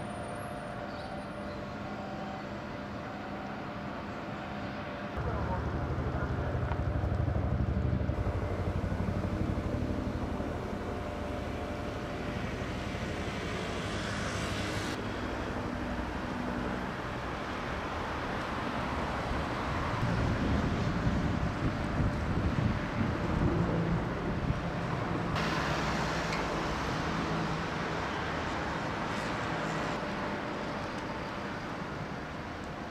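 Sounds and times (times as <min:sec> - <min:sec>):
outdoor noise: 0:00.0 - 0:32.9
distant engines rumbling: 0:04.6 - 0:32.8.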